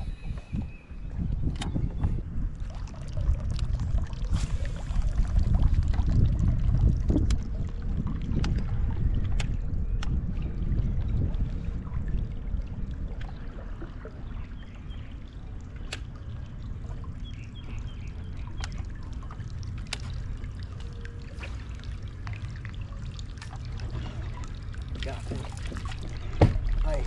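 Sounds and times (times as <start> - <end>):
low rumble: 0.0 - 27.0
water lapping against boat hull: 0.0 - 27.0.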